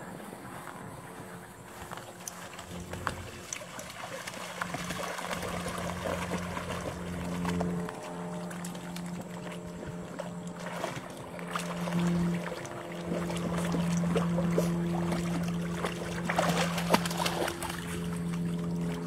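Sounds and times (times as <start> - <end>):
water splashing: 1.8 - 19.0.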